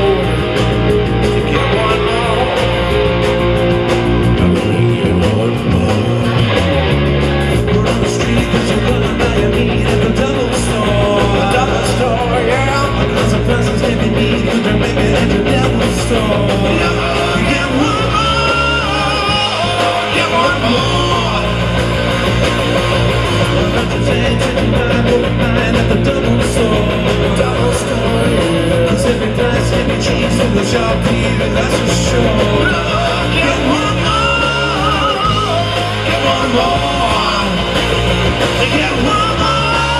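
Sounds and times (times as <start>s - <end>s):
person singing: 0.0s - 6.8s, 7.5s - 22.0s, 23.1s - 39.9s
drums: 0.0s - 39.9s
electric guitar: 0.0s - 39.9s.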